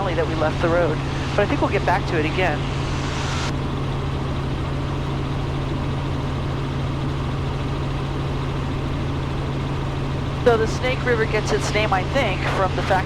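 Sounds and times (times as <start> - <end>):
helicopter engine and rotors: 0.0 - 13.0.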